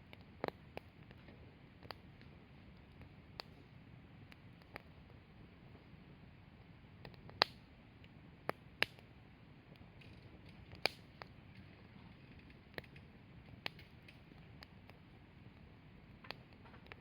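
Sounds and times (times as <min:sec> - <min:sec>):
faint steady hiss: 0:00.0 - 0:17.0
wood fire popping: 0:00.0 - 0:17.0.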